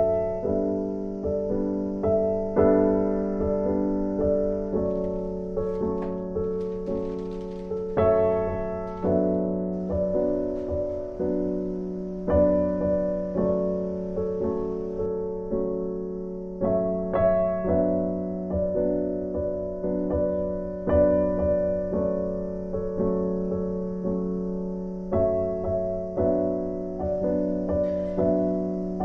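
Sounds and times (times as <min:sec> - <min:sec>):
slow gentle piano music: 0:00.0 - 0:29.0.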